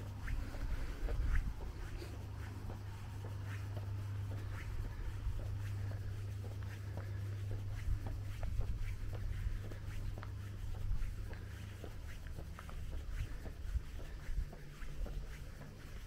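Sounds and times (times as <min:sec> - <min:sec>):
footsteps crunching on stony path: 0:00.0 - 0:15.9
steady low rumble: 0:00.0 - 0:16.0.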